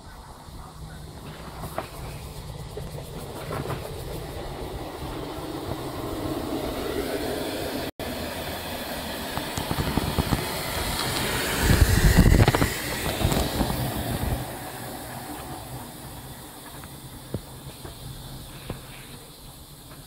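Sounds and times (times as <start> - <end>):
wheels clicking over rail joints: 0.0 - 7.9, 8.8 - 20.0
steam hissing: 0.0 - 20.0.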